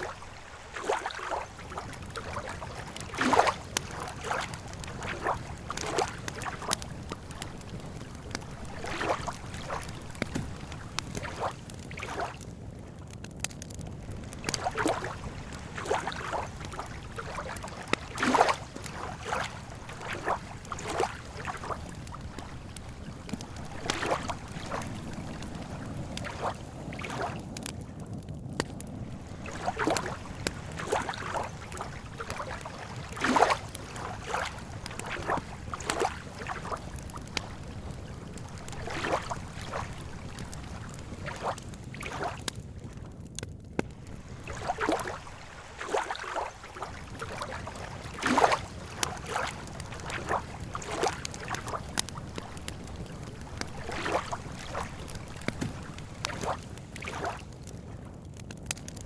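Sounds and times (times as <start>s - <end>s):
water lapping at shore: 0.0s - 58.2s.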